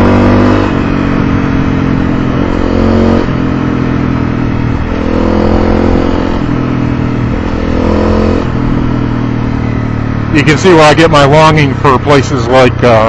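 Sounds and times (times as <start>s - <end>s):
motorcycle engine revving: 0.0s - 13.0s
wind and road noise: 0.0s - 13.0s.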